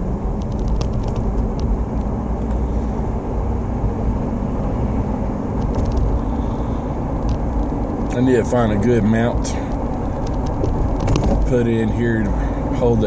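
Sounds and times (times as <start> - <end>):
car engine running: 0.0 - 13.0
tire road noise drone: 0.0 - 13.0.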